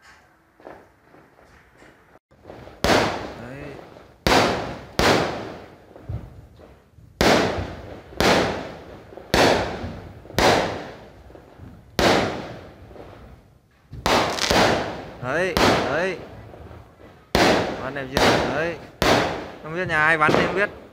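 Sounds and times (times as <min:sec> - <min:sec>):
fireworks bursting with crackling: 0:02.3 - 0:20.9.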